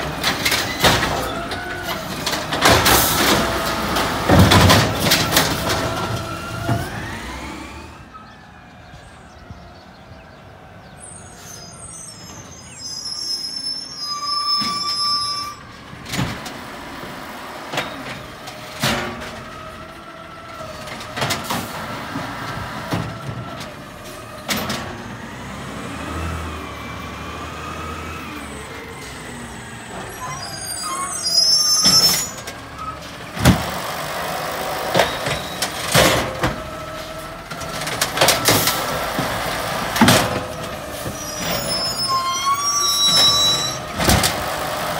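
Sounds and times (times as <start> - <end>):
garbage truck diesel engine: 0.0 - 44.9.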